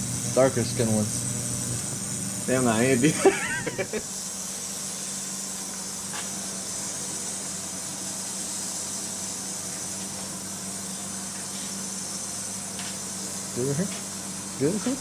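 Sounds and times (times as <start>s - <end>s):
machine high hiss: 0.0s - 15.0s
machine low hum: 0.0s - 15.0s.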